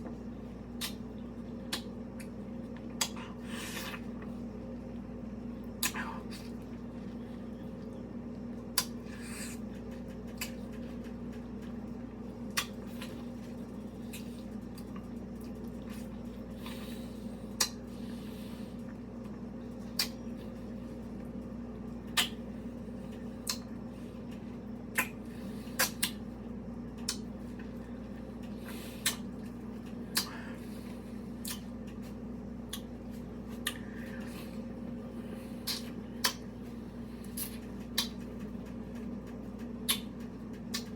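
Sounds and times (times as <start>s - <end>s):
steady low hum: 0.0s - 40.9s
soft wet squishes: 0.1s - 40.9s.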